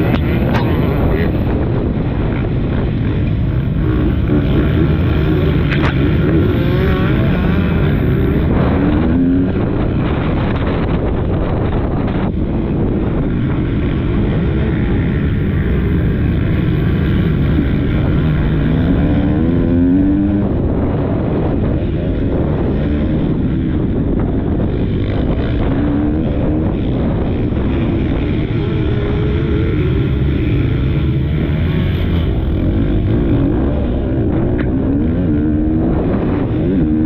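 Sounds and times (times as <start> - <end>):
motocross bike engine revving: 0.0 - 37.0
wind rushing over microphone: 0.0 - 37.0.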